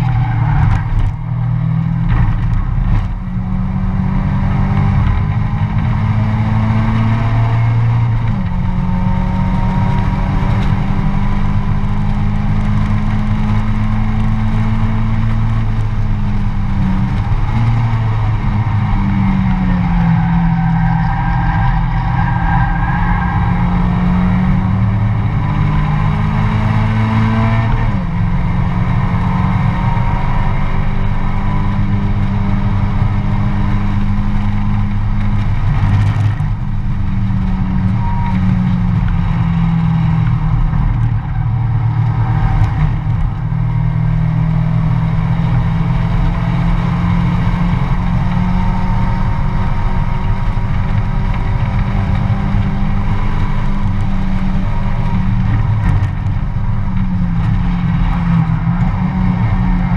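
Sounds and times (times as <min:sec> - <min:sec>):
race car engine running hard: 0:00.0 - 0:59.9
road and wind noise: 0:00.0 - 0:59.9.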